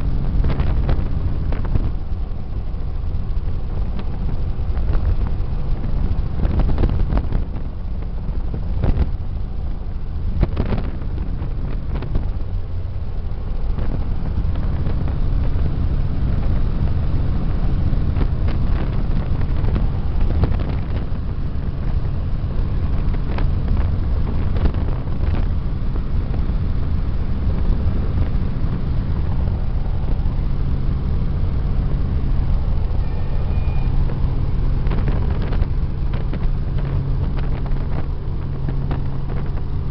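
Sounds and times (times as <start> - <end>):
helicopter rotor and engine rumble: 0.0 - 39.9.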